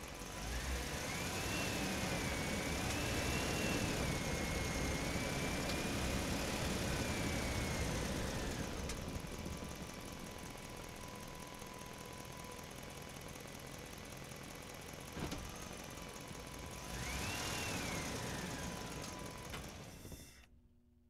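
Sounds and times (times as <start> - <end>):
engine-like running noise: 0.0 - 20.2.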